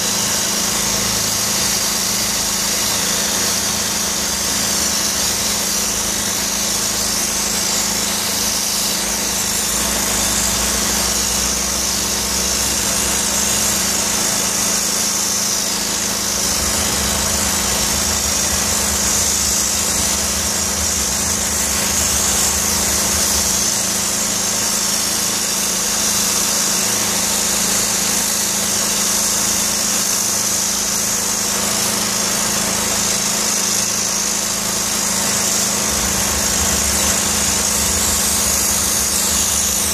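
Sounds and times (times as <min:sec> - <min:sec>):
steam cleaner machine hum: 0:00.0 - 0:39.9
steam jet hissing: 0:00.0 - 0:39.9.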